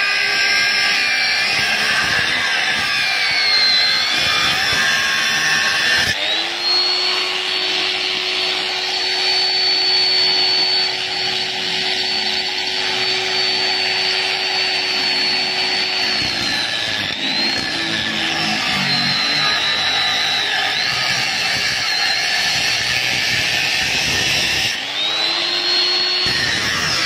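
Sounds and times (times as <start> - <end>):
angle grinder cutting steel: 0.0 - 27.0.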